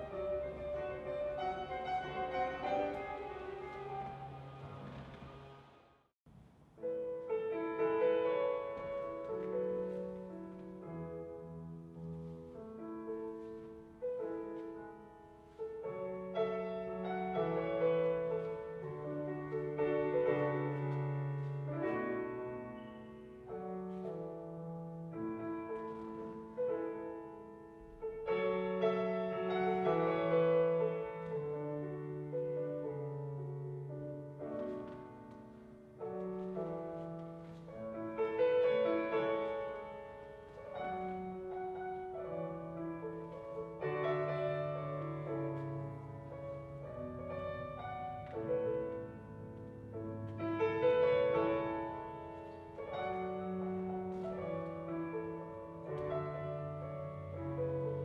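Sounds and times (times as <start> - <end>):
solo piano music: 0.0 - 5.2, 6.6 - 58.0.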